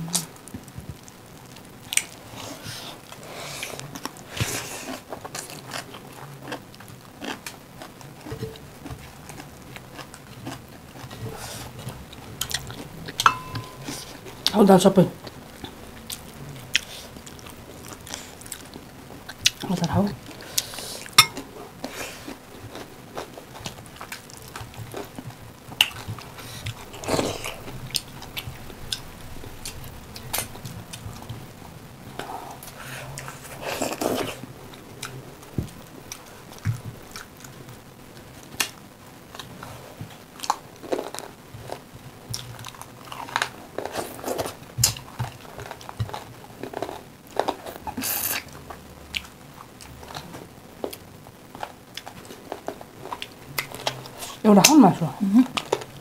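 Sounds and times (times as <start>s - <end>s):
people chewing and lip-smacking: 1.9s - 14.5s, 15.6s - 31.5s, 32.1s - 54.4s.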